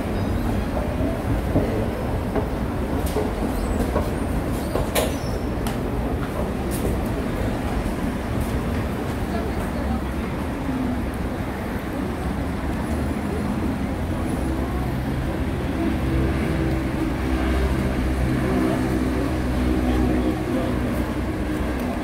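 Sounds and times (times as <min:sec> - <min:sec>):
city street traffic: 0:00.0 - 0:22.0
vehicle engine running nearby: 0:00.0 - 0:22.0.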